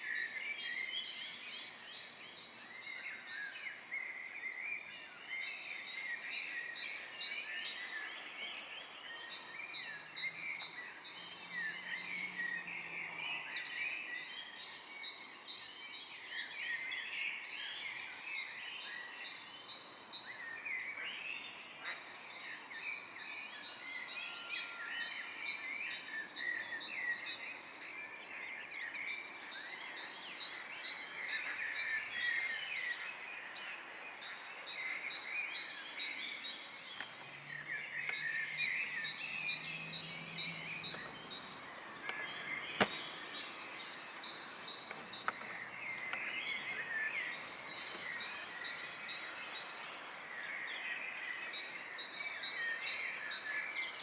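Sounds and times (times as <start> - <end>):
songbirds chirping and warbling: 0.0 - 54.0.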